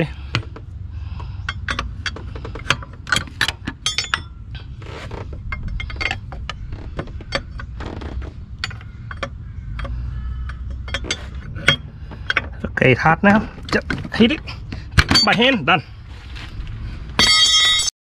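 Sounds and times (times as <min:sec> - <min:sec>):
low rumble: 0:00.0 - 0:15.2, 0:15.8 - 0:17.8.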